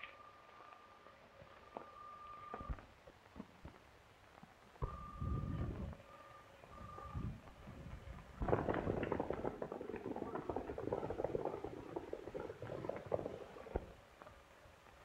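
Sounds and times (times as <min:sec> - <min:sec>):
horses galloping hoofbeats: 0:00.0 - 0:15.0.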